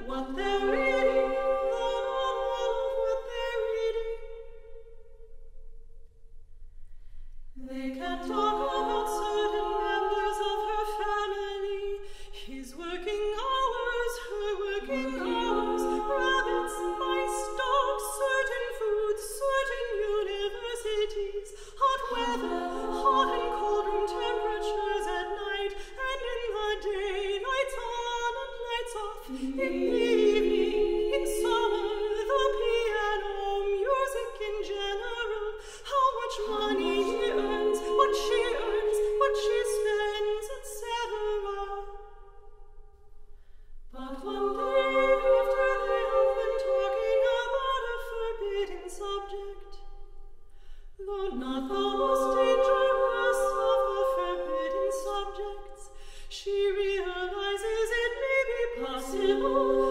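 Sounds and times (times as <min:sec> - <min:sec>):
women's choir singing: 0:00.0 - 0:04.4, 0:07.6 - 0:12.0, 0:12.6 - 0:41.9, 0:44.0 - 0:49.4, 0:51.0 - 0:59.9.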